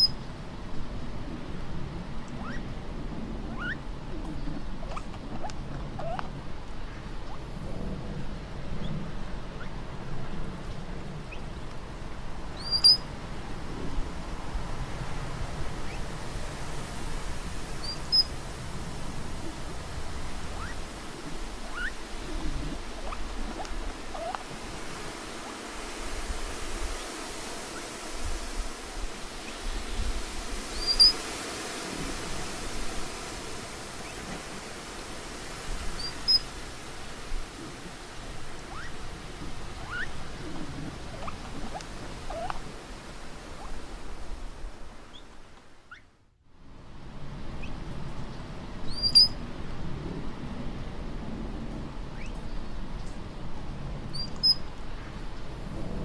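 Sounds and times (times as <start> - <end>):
rushing outdoor background: 0.0 - 46.2.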